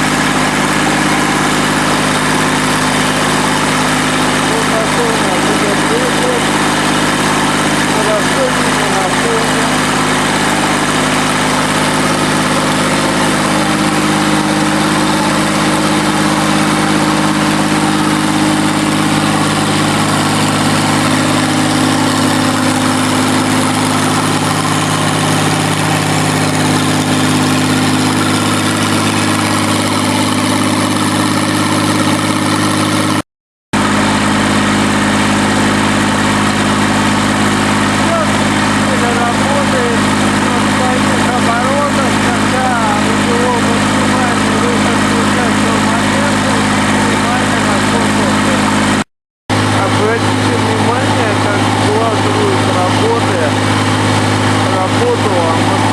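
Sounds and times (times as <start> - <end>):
diesel engine running steadily: 0.0 - 33.2, 33.8 - 55.9.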